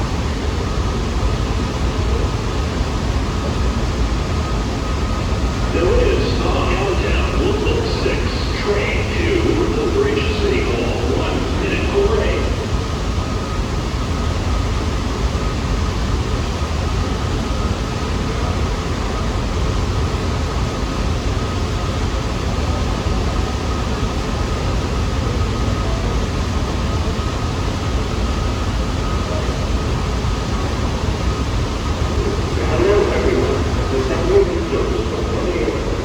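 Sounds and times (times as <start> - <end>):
faint steady whine: 0.0 - 36.0
subway train rumble and hiss: 0.0 - 36.0.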